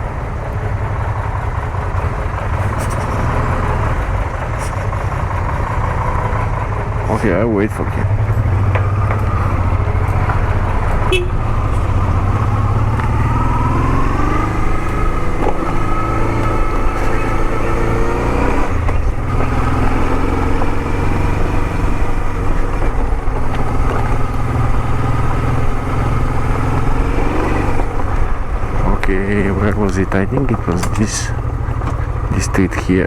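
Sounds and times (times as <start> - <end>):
motorcycle engine rumbling: 0.0 - 33.0.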